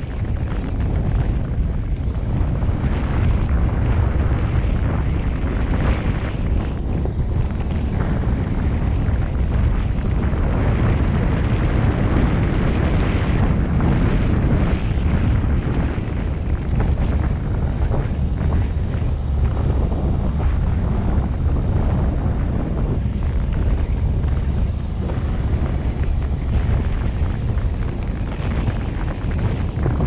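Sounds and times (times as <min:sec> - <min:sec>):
car driving low rumble: 0:00.0 - 0:30.0.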